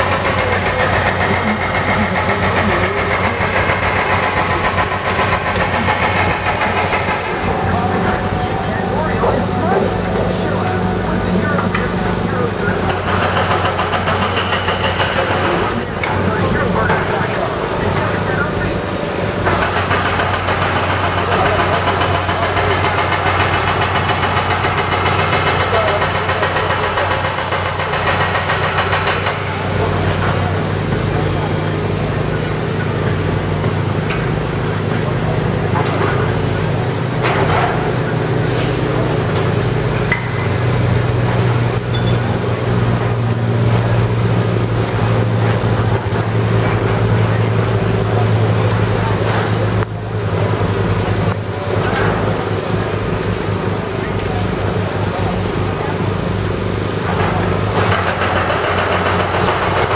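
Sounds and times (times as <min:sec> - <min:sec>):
construction machinery engine running: 0:00.0 - 0:59.9
street traffic noise: 0:00.0 - 0:59.9.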